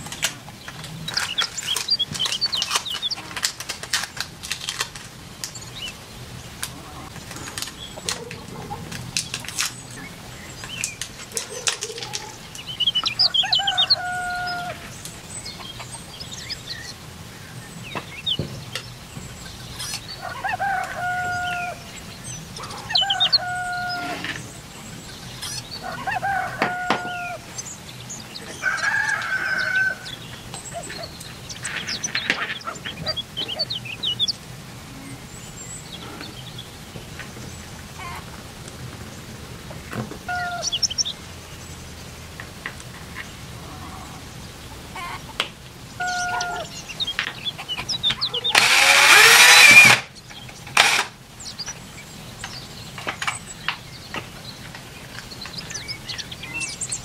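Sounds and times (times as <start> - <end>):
chickens calling: 0.0 - 57.0.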